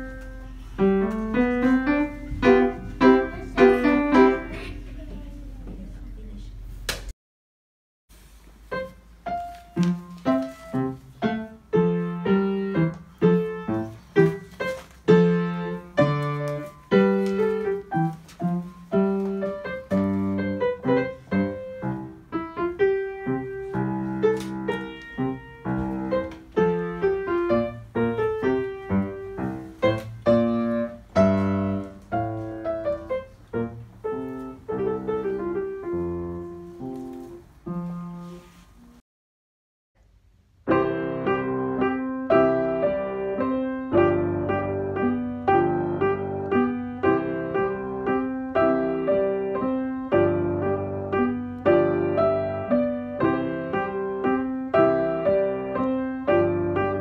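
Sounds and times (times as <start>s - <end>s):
upright piano playing: 0.0s - 5.6s, 8.7s - 38.5s, 40.6s - 57.0s.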